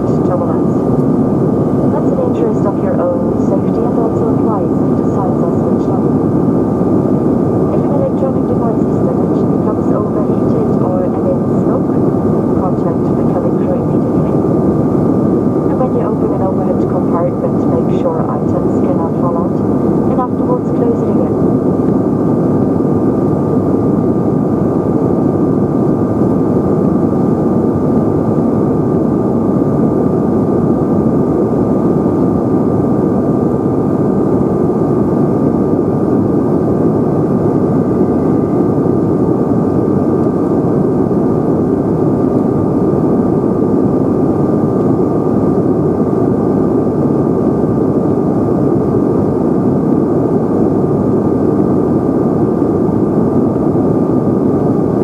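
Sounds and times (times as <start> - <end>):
high engine whine: 0.0 - 55.0
jet cabin roar: 0.0 - 55.0.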